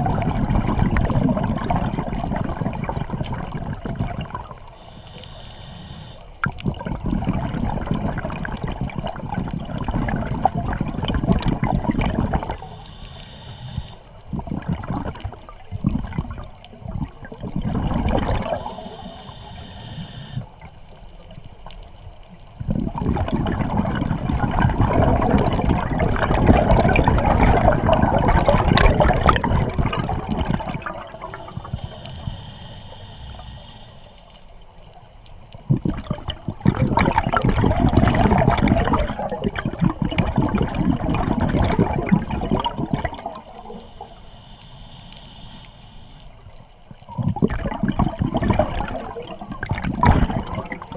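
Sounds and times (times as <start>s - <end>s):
underwater bubbles gurgling: 0.0s - 50.9s.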